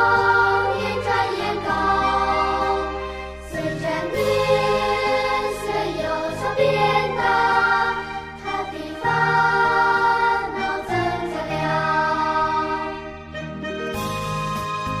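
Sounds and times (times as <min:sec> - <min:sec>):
background music with held chords: 0:00.0 - 0:15.0.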